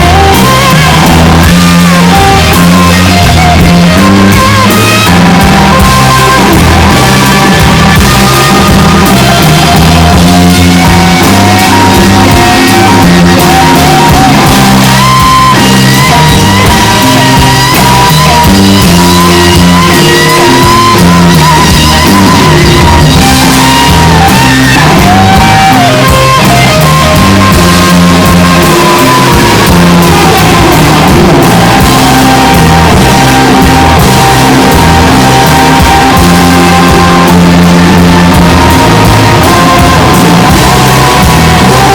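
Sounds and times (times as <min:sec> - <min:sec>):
guitar lead line bending: 0:00.0 - 0:41.9
loud live rock band: 0:00.0 - 0:41.9.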